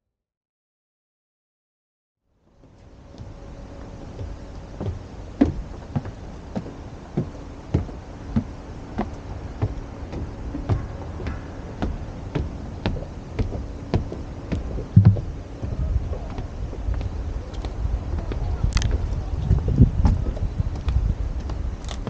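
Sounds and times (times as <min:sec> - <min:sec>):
faint steady hum: 0:02.3 - 0:22.0
footsteps walking: 0:02.6 - 0:22.0.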